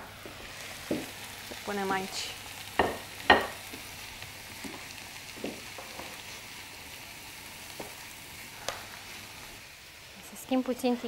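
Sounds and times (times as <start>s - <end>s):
vegetables sizzling in frying pan: 0.0s - 11.0s.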